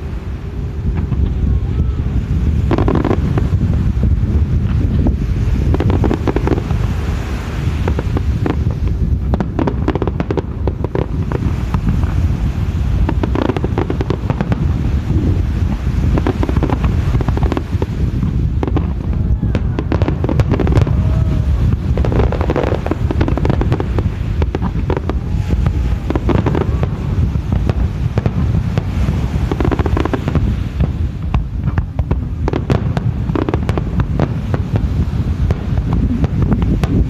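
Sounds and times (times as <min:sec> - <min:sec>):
fireworks bangs: 0:00.0 - 0:37.0
fireworks crackling: 0:00.0 - 0:37.0
low rumble: 0:00.0 - 0:37.0.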